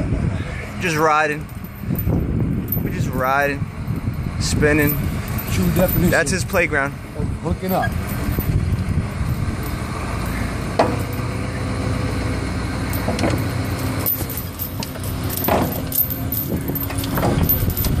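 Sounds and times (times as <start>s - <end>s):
tow truck engine rumbling: 0.0s - 18.0s
metal chain clinking: 0.9s - 6.9s, 7.7s - 18.0s.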